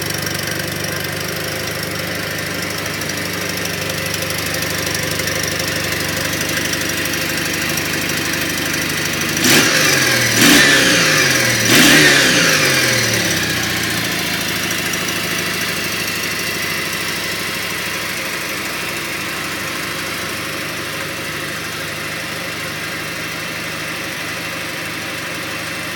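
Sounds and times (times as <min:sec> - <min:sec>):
motorcycle engine idling and revving: 0:00.0 - 0:25.9.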